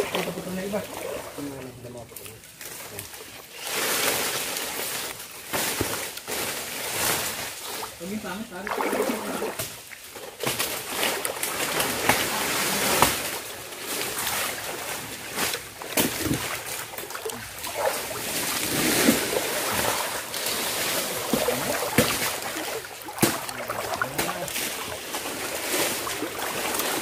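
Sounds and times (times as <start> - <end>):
water splashing and sloshing: 0.0 - 27.0
rustling: 2.2 - 8.5, 9.6 - 27.0.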